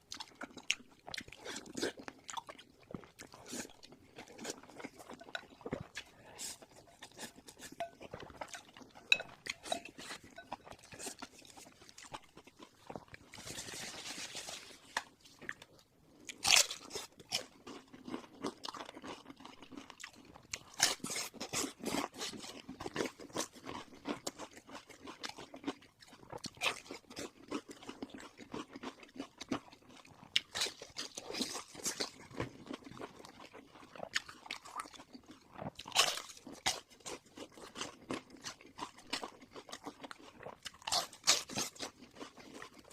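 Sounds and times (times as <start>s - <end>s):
person crunching and chewing: 0.1s - 42.9s.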